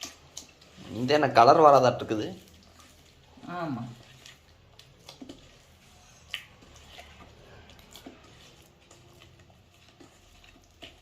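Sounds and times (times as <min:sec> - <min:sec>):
spoon stirring thick batter: 0:00.0 - 0:11.0.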